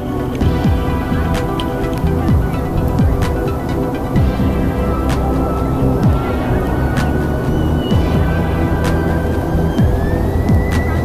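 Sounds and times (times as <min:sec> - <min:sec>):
background music with a beat: 0:00.0 - 0:11.0
deep bass notes sliding down: 0:00.4 - 0:11.0.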